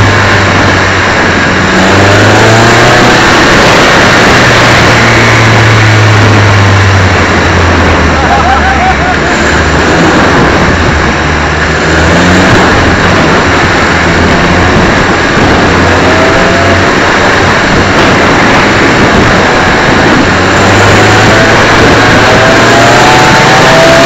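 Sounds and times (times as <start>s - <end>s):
race car engine revving: 0.0s - 24.0s
wind rush on microphone: 0.0s - 24.0s.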